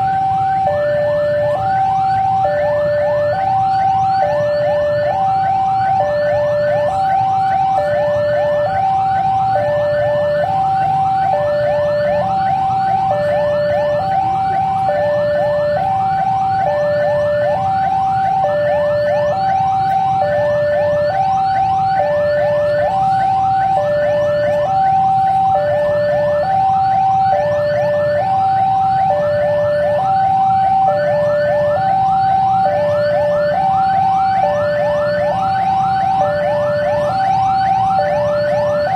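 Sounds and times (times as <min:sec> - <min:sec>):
rising siren yelp: 0:00.0 - 0:38.9
two-tone warning siren: 0:00.0 - 0:38.9.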